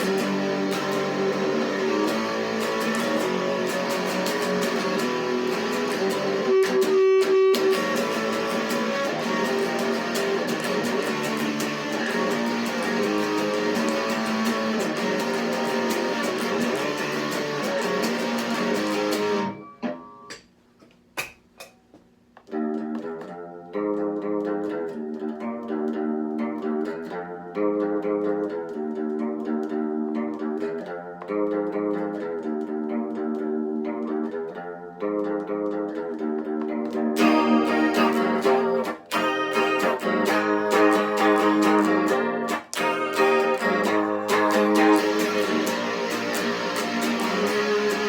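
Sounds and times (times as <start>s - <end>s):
electric guitar through amplifier: 0.0s - 20.4s, 22.4s - 48.0s.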